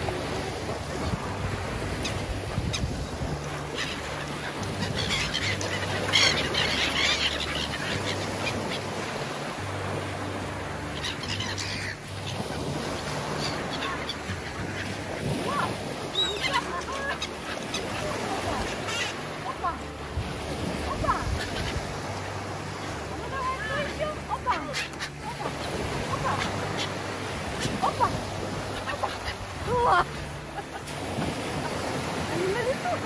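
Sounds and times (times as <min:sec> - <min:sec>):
seagulls calling: 0:00.0 - 0:33.0.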